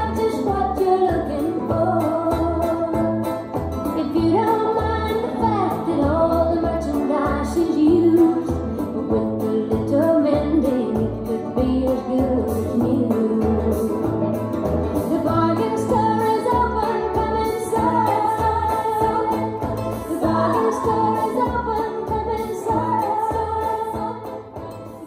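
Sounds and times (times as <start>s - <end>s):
country music over speakers: 0.0s - 25.0s.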